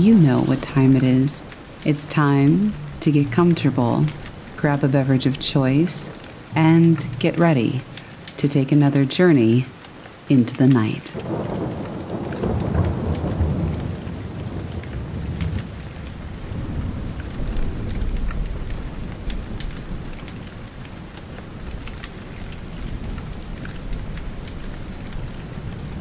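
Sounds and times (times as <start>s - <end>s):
thunder rumbling: 0.0s - 8.9s, 11.1s - 26.0s
steady rain: 0.0s - 26.0s.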